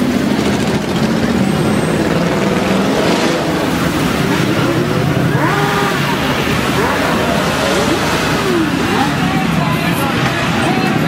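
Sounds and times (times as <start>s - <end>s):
motorcycle engine revving: 0.0s - 11.0s
motorcycle engines droning: 0.0s - 11.0s.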